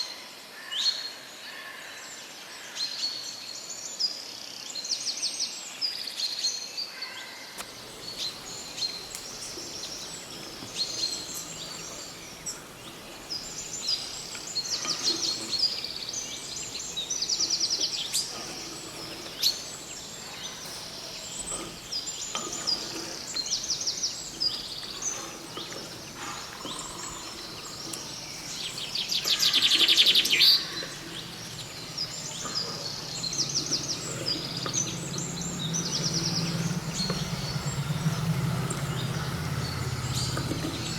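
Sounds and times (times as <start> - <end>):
birds chirping and singing: 7.6 - 40.9
loud rapid bird trill: 7.6 - 40.9.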